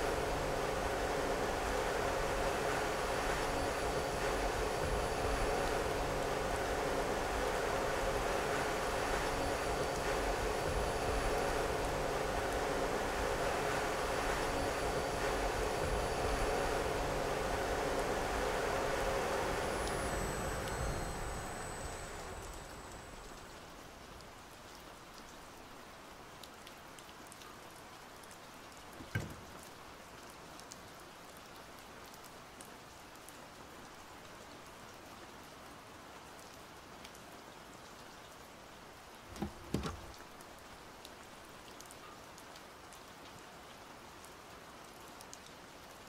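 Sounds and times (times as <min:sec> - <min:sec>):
rain on wet surface: 0:00.0 - 0:46.0.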